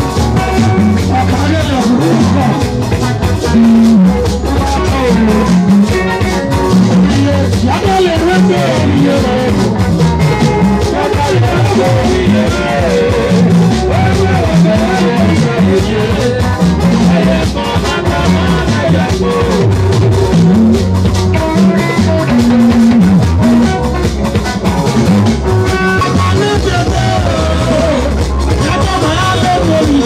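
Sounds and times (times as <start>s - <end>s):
person singing: 0.0s - 24.0s, 25.4s - 30.0s
bass line: 0.0s - 30.0s
drum kit beat: 0.0s - 30.0s
electric guitars: 0.0s - 30.0s.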